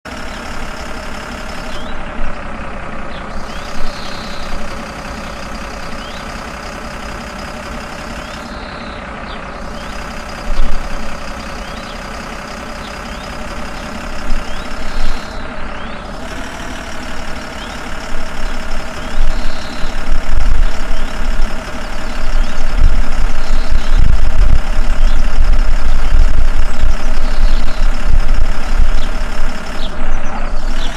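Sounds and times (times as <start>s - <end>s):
tractor engine droning: 0.0s - 30.9s.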